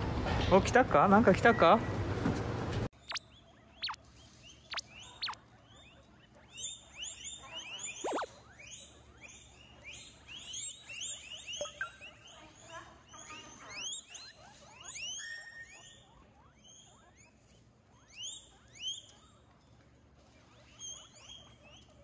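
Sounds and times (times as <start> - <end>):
guinea pigs squeaking: 2.9 - 22.0.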